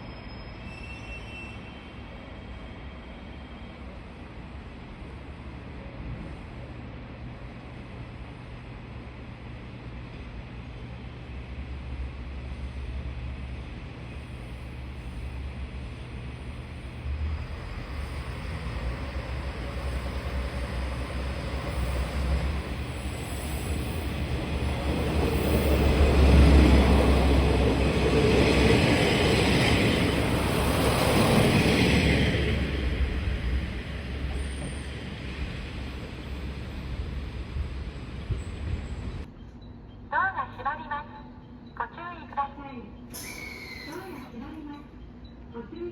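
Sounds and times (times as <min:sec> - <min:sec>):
train rumbling: 0:00.0 - 0:45.9.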